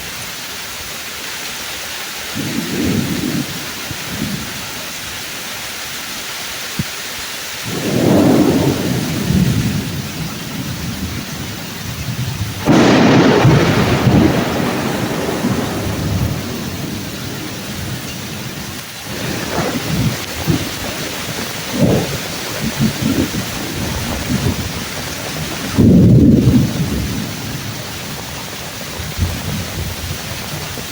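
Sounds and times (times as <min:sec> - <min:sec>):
heavy rain: 0:00.0 - 0:30.9
thunder rumbling: 0:02.3 - 0:05.0, 0:07.6 - 0:30.9
loud thunder crack: 0:02.4 - 0:04.6, 0:07.7 - 0:30.9.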